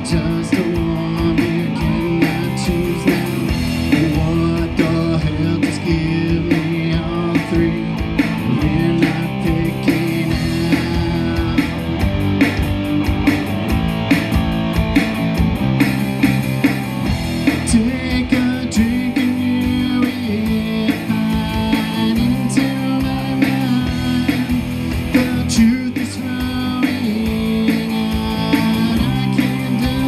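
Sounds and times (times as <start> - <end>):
bass guitar: 0.0 - 30.0
drum kit beat: 0.0 - 30.0
electric guitar: 0.0 - 30.0.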